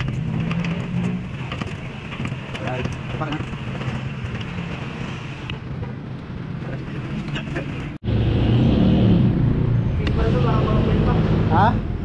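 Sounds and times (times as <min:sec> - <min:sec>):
street and vehicle rumble: 0:00.0 - 0:12.0.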